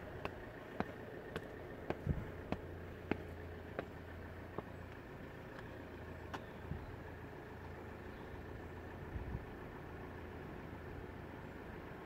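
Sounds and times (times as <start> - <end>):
traffic rumble and idling engines: 0.0 - 12.0.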